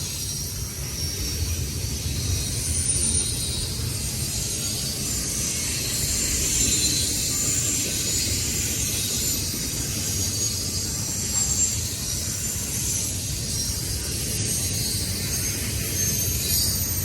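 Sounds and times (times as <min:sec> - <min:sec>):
high-pitched hiss: 0:00.0 - 0:17.0
train wheels rumbling on rails: 0:00.0 - 0:17.0.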